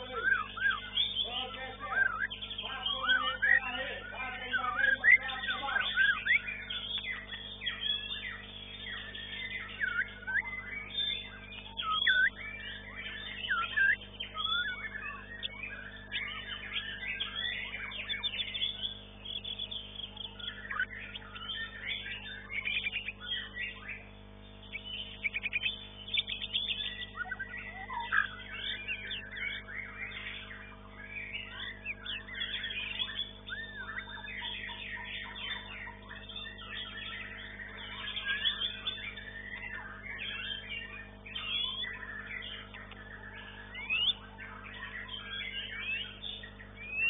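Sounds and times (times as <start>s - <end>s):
bird song with whistles and trills: 0.0s - 47.0s
steady low hum: 0.0s - 47.0s.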